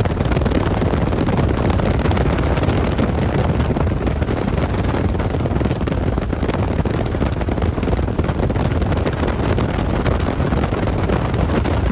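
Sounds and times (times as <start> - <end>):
helicopter rotor and engine: 0.0 - 11.9
wind buffeting microphone: 0.0 - 11.9.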